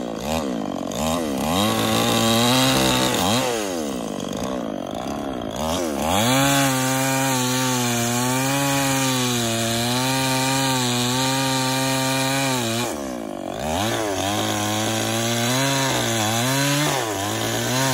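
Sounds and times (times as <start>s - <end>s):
chainsaw cutting wood: 0.0s - 17.9s.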